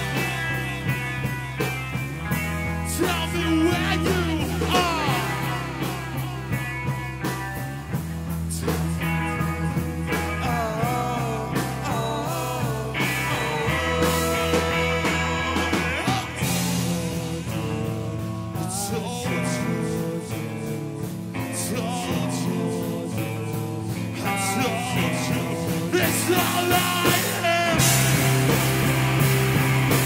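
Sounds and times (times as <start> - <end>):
person singing: 0.0 - 1.6, 2.8 - 7.4, 8.4 - 28.6
drums with cymbals: 0.0 - 30.0
electric bass: 0.0 - 30.0
electric guitar: 0.0 - 30.0.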